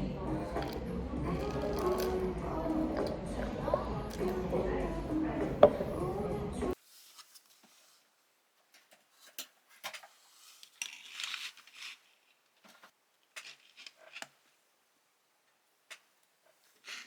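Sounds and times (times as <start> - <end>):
crinkling: 0.4 - 4.6, 5.2 - 14.8.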